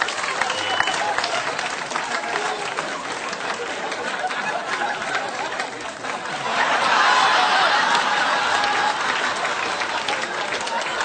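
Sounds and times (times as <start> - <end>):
crowd laughing: 0.0 - 11.0.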